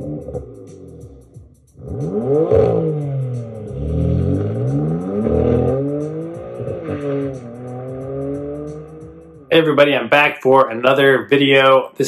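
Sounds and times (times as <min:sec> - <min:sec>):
music with ticking beat: 0:00.0 - 0:09.9
car engine revving: 0:00.0 - 0:10.0.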